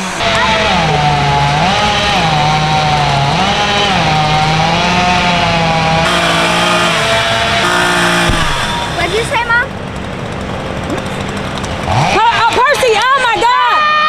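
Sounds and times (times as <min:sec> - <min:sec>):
chainsaw cutting wood: 0:00.0 - 0:12.4.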